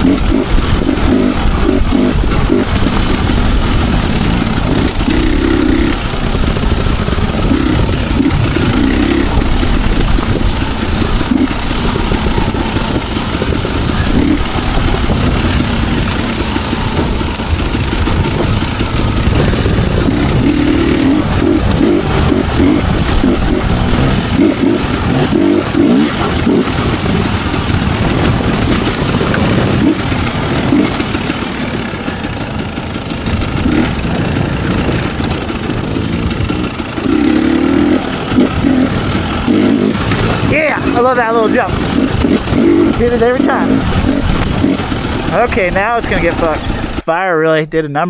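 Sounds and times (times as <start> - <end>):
dirt bike engine revving: 0.0 - 47.1.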